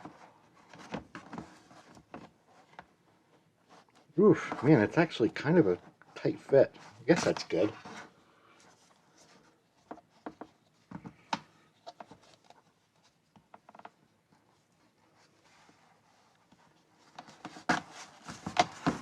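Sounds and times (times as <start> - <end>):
light clicks and rubbing: 0.0 - 19.0.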